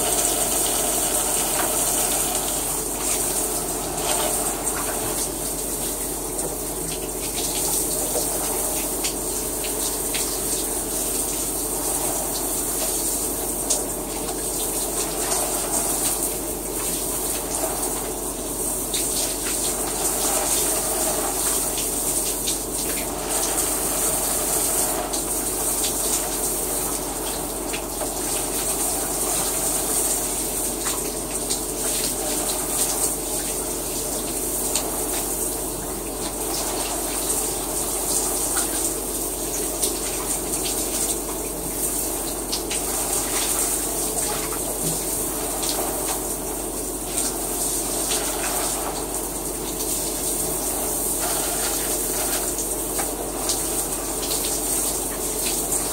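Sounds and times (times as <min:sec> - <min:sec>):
water drips: 0:00.0 - 0:11.6, 0:18.9 - 0:55.9
shower water spraying: 0:00.0 - 0:55.9.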